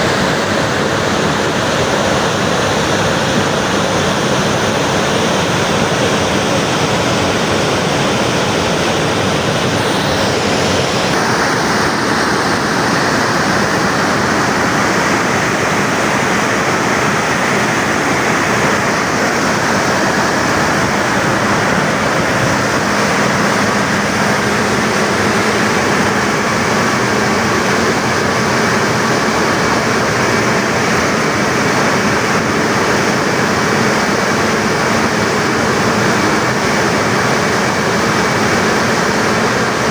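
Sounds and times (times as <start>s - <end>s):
water rushing through spillway: 0.0s - 39.9s.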